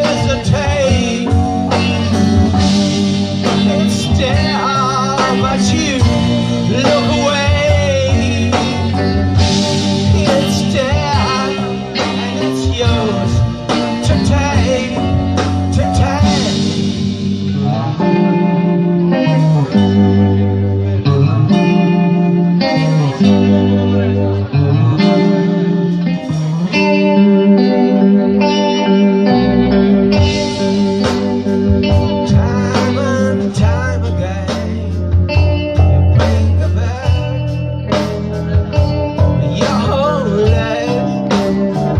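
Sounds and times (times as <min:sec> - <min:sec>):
bass guitar: 0:00.0 - 0:41.9
drums: 0:00.0 - 0:41.9
electric guitar lead: 0:00.0 - 0:41.9.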